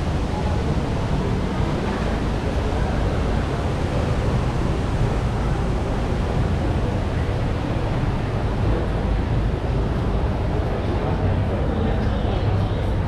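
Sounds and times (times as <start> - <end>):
shopping mall background rumble: 0.0 - 13.0.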